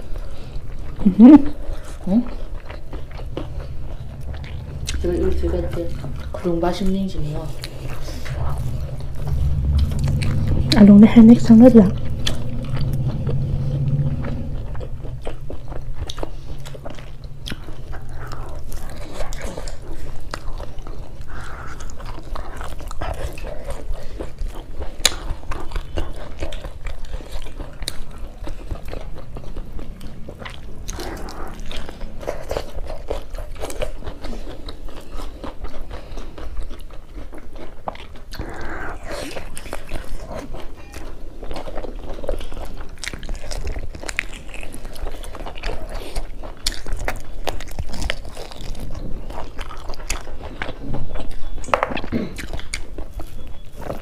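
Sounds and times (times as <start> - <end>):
steady low hum: 0.0 - 54.0
wet chewing and lip smacking: 0.0 - 54.0.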